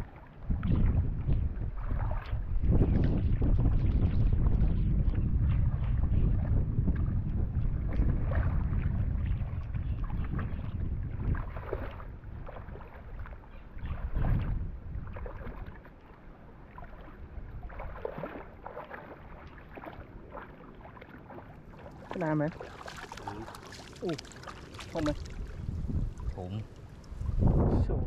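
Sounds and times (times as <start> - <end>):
water splashing and sloshing: 0.0 - 28.0
wind rumbling on microphone: 0.0 - 28.0.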